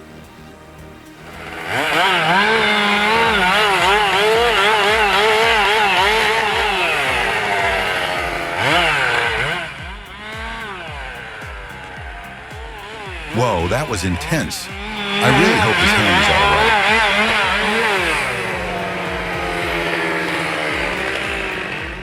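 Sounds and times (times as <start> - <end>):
chainsaw cutting wood: 1.2 - 13.7, 14.7 - 22.0.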